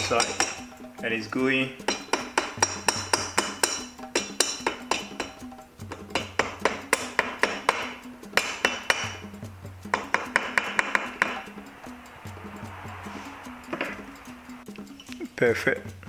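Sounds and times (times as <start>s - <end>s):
rubber mallet tapping metal: 0.0s - 15.2s.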